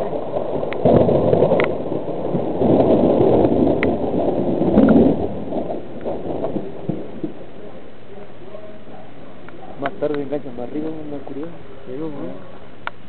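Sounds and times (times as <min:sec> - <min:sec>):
rolling thunder: 0:00.0 - 0:12.9.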